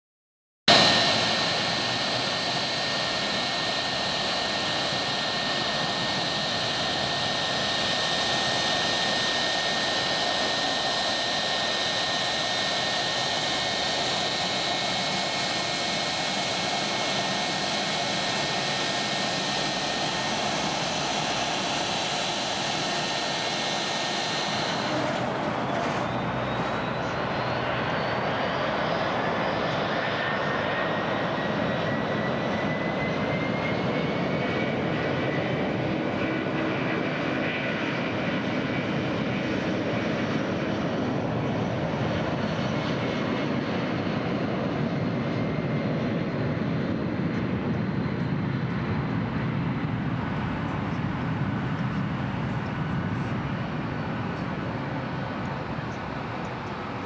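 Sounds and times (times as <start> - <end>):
jet engines rushing with whine: 0.7 - 57.0.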